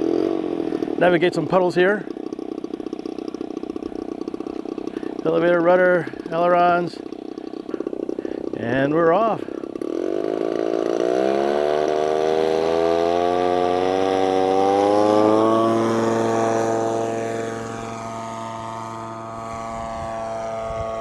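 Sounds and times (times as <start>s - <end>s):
model plane propeller and motor: 0.0s - 21.0s.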